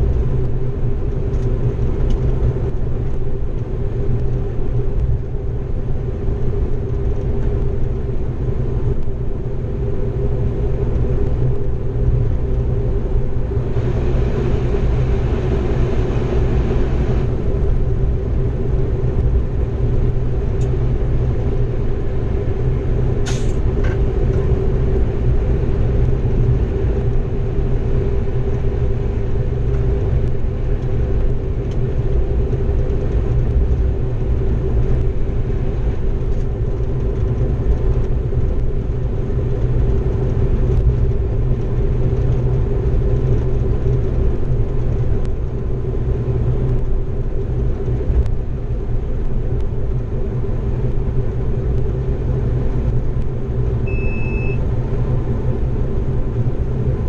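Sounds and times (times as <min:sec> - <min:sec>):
constant hum: 0:00.0 - 0:57.0
diesel locomotive rumble: 0:00.0 - 0:57.0.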